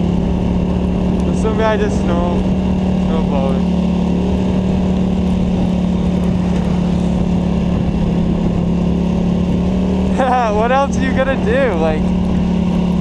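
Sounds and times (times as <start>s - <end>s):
atv engine droning: 0.0s - 13.0s.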